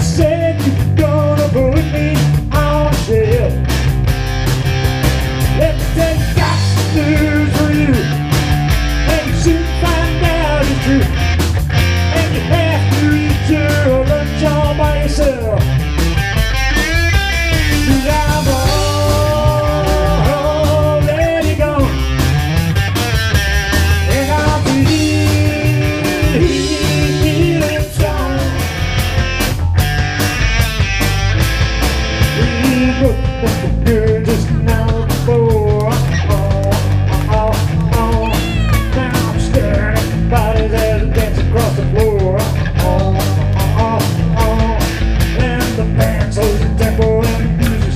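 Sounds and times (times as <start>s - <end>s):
rock music with electric guitar: 0.0s - 47.9s.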